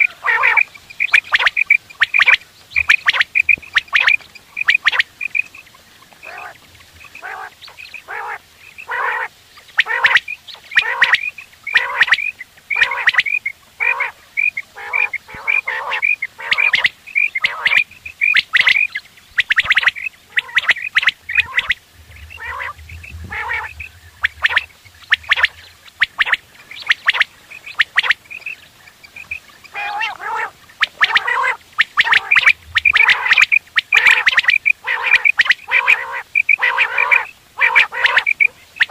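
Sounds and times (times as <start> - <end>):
quails calling: 0.0 - 38.9.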